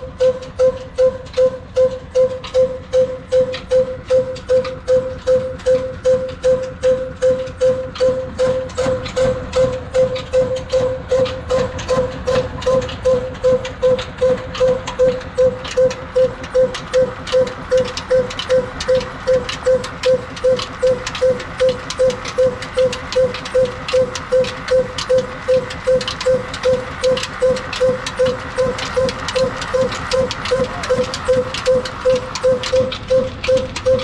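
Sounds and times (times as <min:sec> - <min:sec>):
clatter of sharp clicks: 0:00.0 - 0:34.0
diesel engine exhaust beating: 0:00.0 - 0:34.0.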